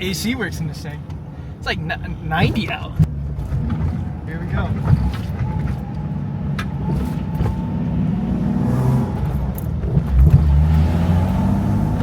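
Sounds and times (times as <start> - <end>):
car engine accelerating: 1.0 - 12.0.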